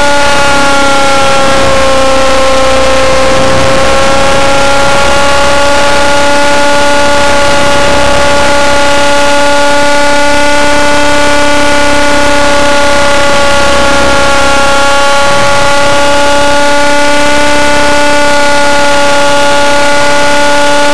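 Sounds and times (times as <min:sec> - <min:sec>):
rc helicopter engine whine: 0:00.0 - 0:20.9.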